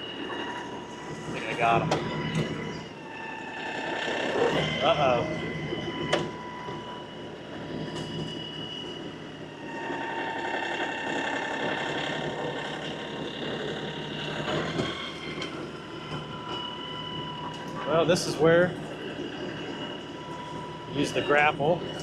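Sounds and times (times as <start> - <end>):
steady whine: 0.0 - 22.0
tractor diesel engine straining: 0.0 - 22.0.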